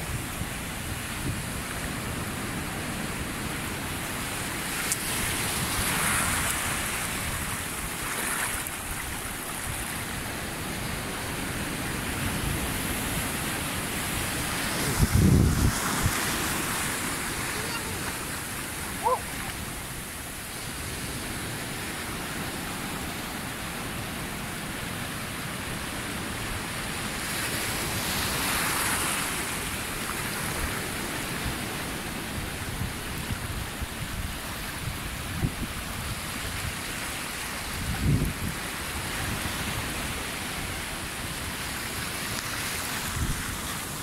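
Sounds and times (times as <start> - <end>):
surf washing over rocks: 0.0 - 44.0.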